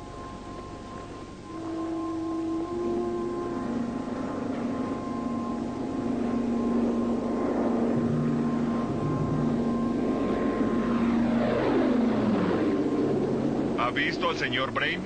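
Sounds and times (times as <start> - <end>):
lower engine note: 0.0 - 15.0
propeller airplane engine droning: 0.0 - 15.0.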